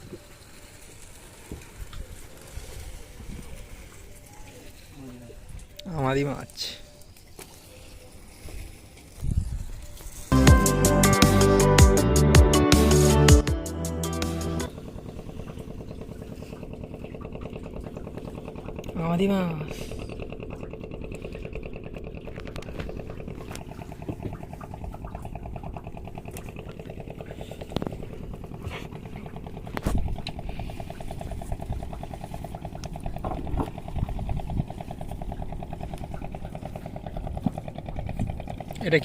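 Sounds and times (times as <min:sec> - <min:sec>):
small engine running: 0:07.5 - 0:39.0.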